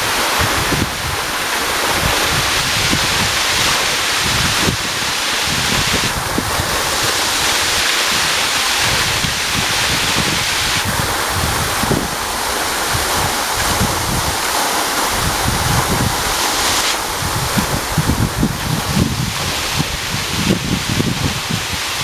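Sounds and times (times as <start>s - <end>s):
waterfall crashing onto rocks: 0.0s - 22.0s
wind buffeting microphone: 0.0s - 22.0s.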